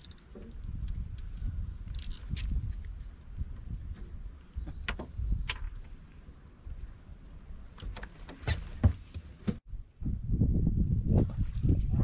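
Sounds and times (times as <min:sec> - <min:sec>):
wind rumbling on microphone: 0:00.0 - 0:08.0, 0:09.4 - 0:12.0.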